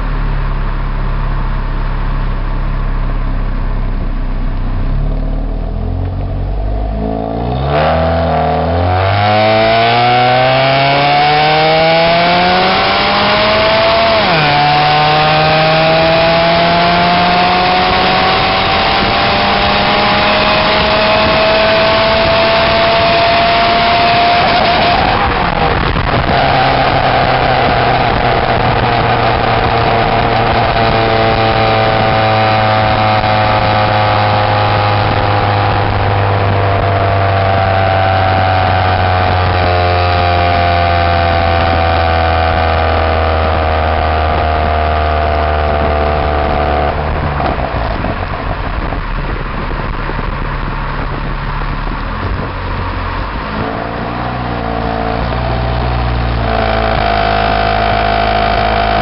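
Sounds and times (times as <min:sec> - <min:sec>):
car exhaust drone while driving: 0:00.0 - 0:59.0.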